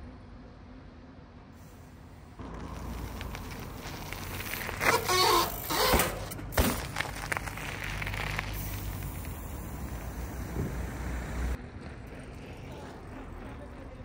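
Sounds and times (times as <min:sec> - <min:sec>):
bicycle tyre and wind noise: 0:01.6 - 0:14.0.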